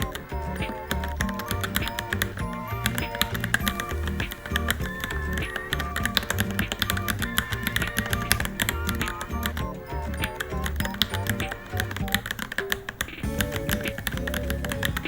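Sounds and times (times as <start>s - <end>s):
mechanical keyboard typing: 0.0s - 15.0s
plucked guitar-like background music: 0.0s - 15.0s.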